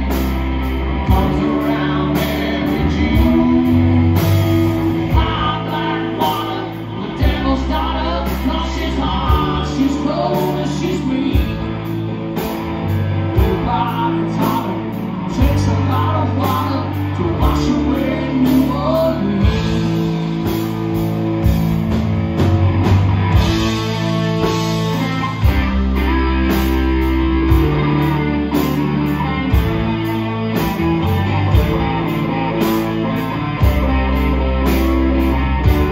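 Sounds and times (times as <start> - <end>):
bending guitar lead line: 0.0 - 35.9
country-rock band playing: 0.0 - 35.9.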